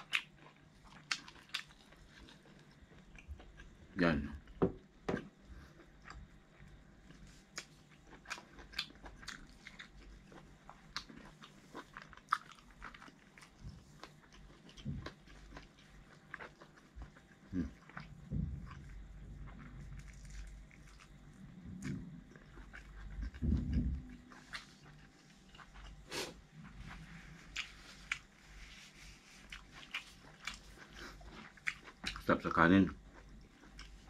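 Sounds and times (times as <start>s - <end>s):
chewing and biting: 0.0s - 3.7s, 5.6s - 28.6s, 29.4s - 34.0s.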